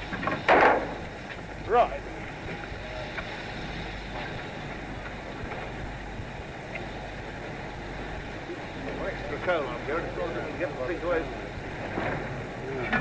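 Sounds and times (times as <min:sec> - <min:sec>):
steam locomotive hissing and rumbling: 0:00.0 - 0:13.0.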